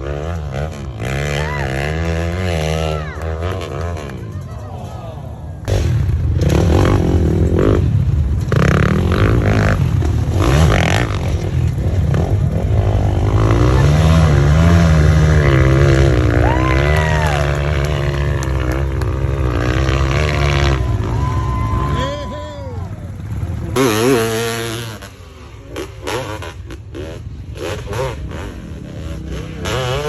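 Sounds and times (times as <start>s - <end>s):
racing motorcycle engine revving: 0.0s - 30.0s.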